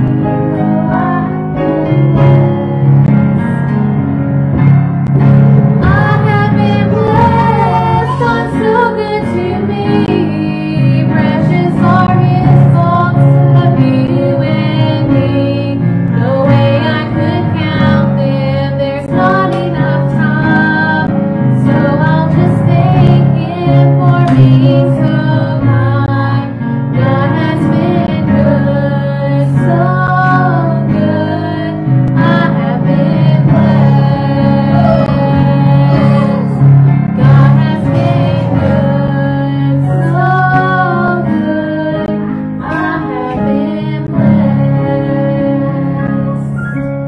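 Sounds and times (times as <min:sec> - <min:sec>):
instrumental accompaniment: 0:00.0 - 0:47.0
women singing a church song: 0:05.8 - 0:46.6.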